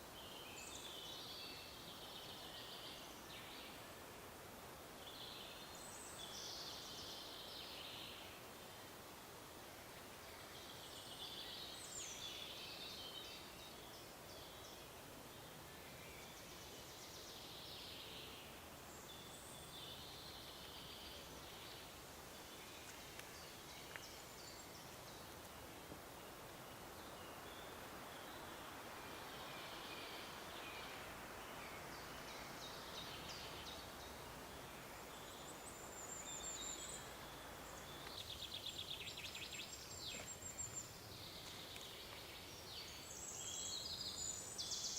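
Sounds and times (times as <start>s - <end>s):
songbirds singing: 0.0s - 4.0s, 5.0s - 9.0s, 9.9s - 44.9s
faint background hiss: 0.0s - 44.9s.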